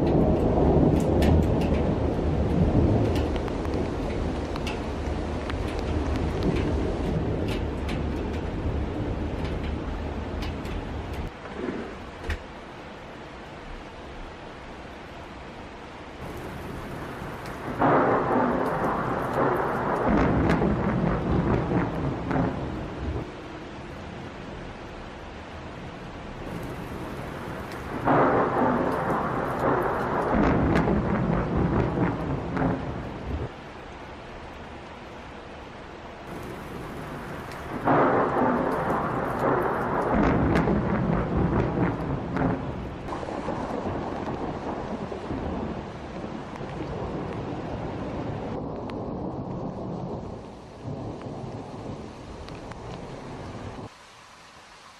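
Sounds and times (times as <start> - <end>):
thunder crack and rumble: 0.0 - 12.5, 16.2 - 24.8, 26.3 - 33.6, 36.3 - 53.9.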